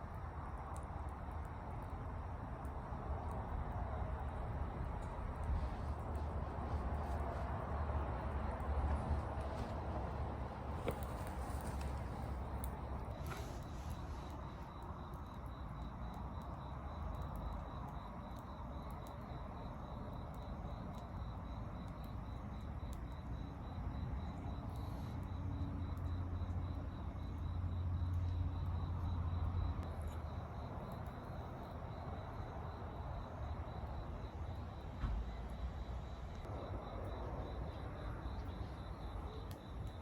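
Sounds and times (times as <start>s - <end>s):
insects chirring: 2.6s - 40.0s.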